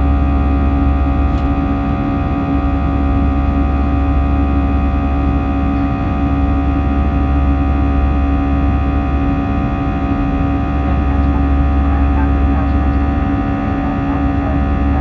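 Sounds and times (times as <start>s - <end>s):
jet engine cabin drone: 0.0s - 15.0s.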